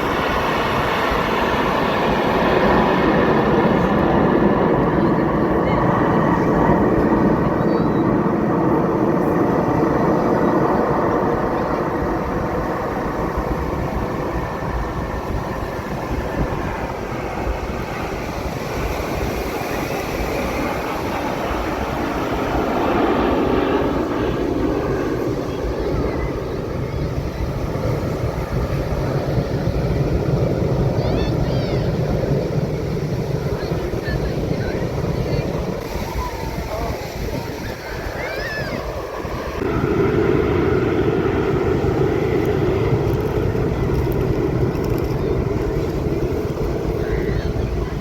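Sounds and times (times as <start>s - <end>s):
aircraft engine rough rumble: 0.0s - 48.0s.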